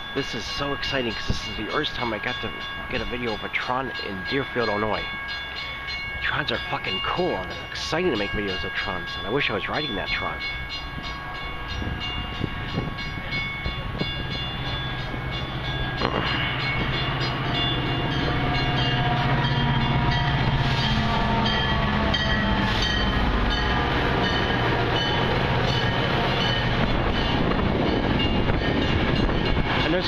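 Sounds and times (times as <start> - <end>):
diesel train passing: 0.0 - 30.0.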